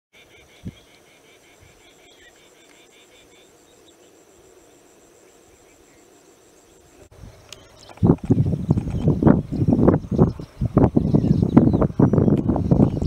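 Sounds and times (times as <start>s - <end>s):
insect high-pitched trill: 0.2s - 13.0s
insects pulsed chirping: 0.2s - 13.0s.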